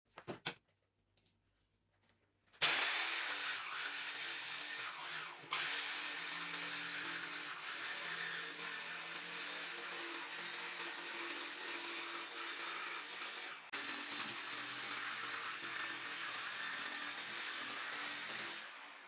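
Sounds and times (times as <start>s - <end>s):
electric power tool whining: 2.6s - 19.0s.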